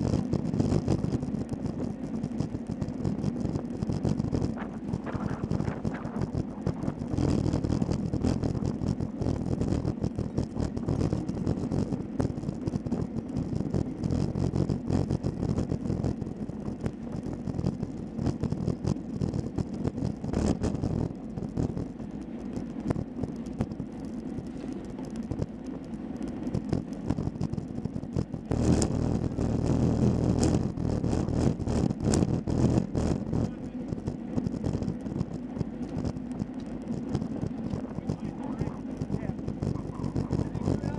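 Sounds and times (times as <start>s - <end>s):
bike tyres rolling on asphalt: 0.0s - 40.9s
wind buffeting microphone: 0.0s - 40.9s.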